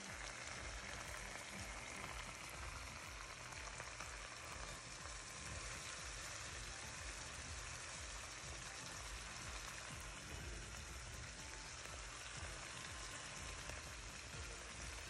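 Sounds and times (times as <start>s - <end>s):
steaks sizzling in a pan: 0.0s - 15.0s.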